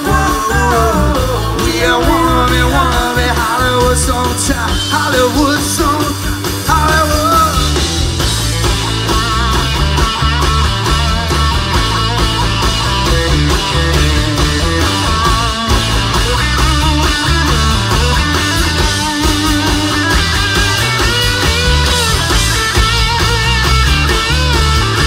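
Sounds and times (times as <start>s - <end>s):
bass guitar: 0.0s - 25.0s
drums: 0.0s - 25.0s
electric guitar lead: 0.0s - 25.0s.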